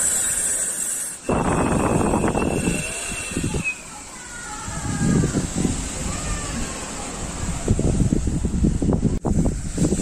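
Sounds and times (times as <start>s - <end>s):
heavy wind buffeting microphone: 1.2s - 10.0s.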